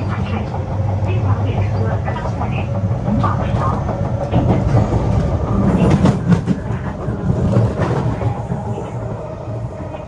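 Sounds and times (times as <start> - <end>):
wheels clacking over rails: 0.0 - 9.1
train interior low rumble: 0.0 - 10.0.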